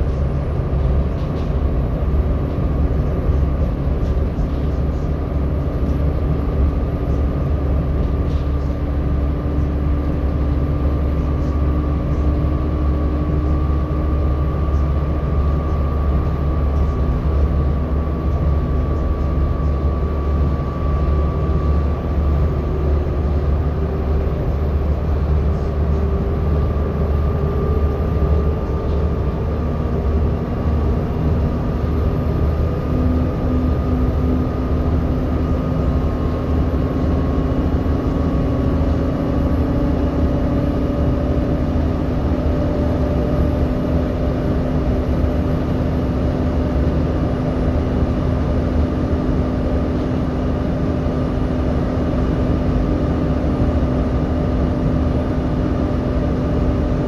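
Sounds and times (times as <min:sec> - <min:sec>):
bus diesel engine rumble: 0:00.0 - 0:57.0
cooling fan whine: 0:00.0 - 0:57.0.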